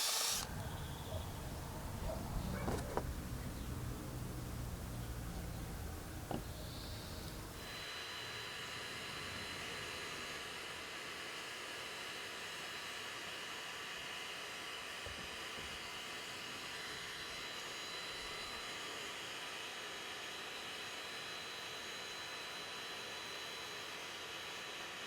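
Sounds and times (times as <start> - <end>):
small electric tool whirring: 0.0 - 25.0.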